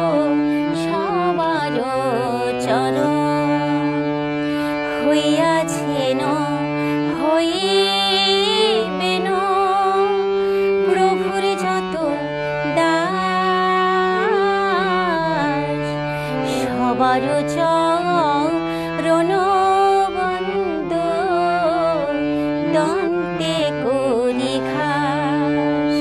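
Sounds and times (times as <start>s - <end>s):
sustained instrumental drone: 0.0s - 26.0s
woman singing devotional song: 0.0s - 26.0s.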